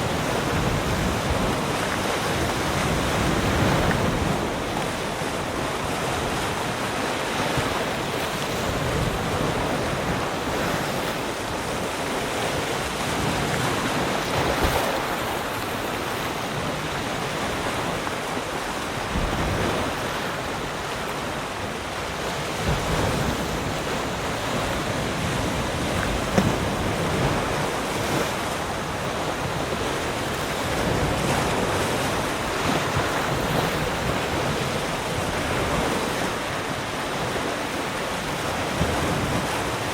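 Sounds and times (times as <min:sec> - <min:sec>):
waves breaking on shore: 0:00.0 - 0:39.9
wind on microphone: 0:00.0 - 0:39.9.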